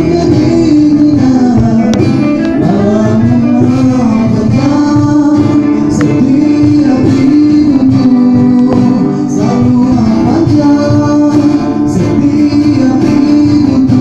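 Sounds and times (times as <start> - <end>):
instrumental accompaniment: 0.0 - 14.0
person singing long held notes: 0.0 - 14.0.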